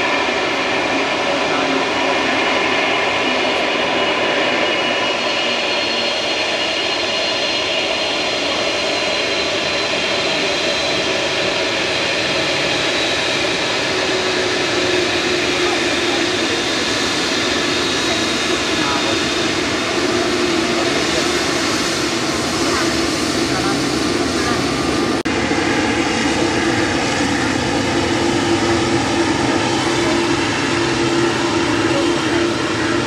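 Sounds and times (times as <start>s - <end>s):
jet engines taxiing: 0.0s - 33.0s.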